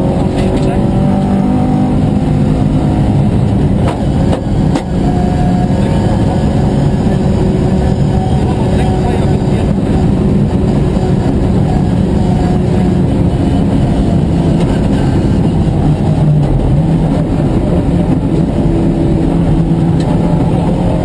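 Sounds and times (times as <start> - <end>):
rally car engine running hard: 0.0 - 21.0
road noise: 0.0 - 21.0.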